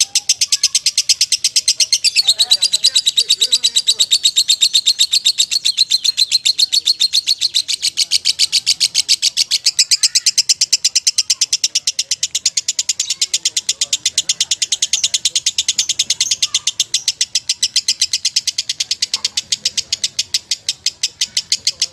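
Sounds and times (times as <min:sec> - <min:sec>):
lovebird chattering: 0:00.0 - 0:21.9.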